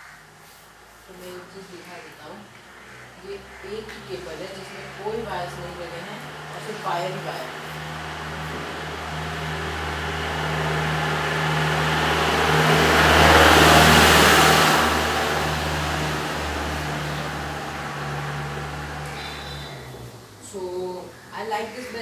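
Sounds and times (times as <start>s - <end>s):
motor vehicle passing by: 0.0s - 22.0s
steady low hum: 0.8s - 21.4s.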